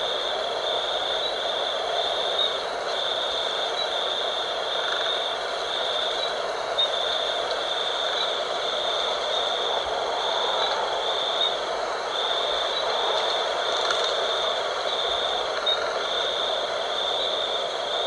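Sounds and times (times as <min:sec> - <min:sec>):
insects trilling: 0:00.0 - 0:18.0
wind blowing: 0:00.0 - 0:18.0.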